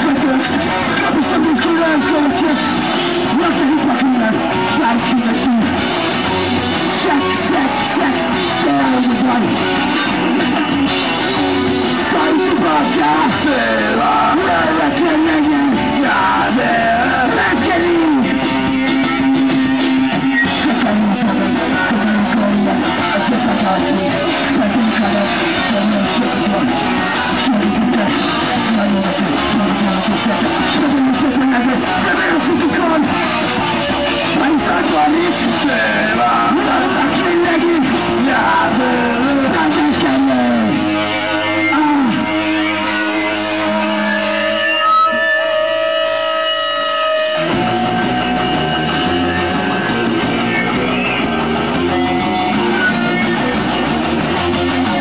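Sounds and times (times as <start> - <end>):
drum kit: 0.0 - 55.0
electric guitar: 0.0 - 55.0
screamed punk vocals: 0.0 - 55.0.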